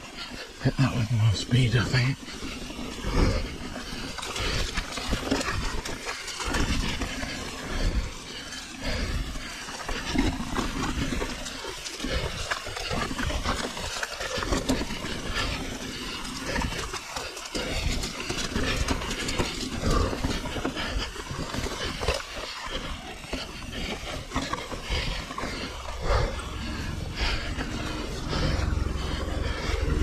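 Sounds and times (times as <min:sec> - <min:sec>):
bike rattling and knocking: 0:02.2 - 0:30.0.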